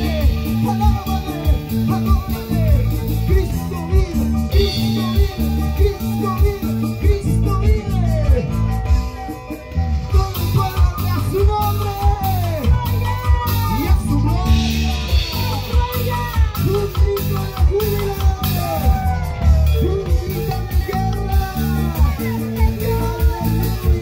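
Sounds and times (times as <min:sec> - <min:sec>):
electric bass: 0:00.0 - 0:24.0
live band playing praise song: 0:00.0 - 0:24.0.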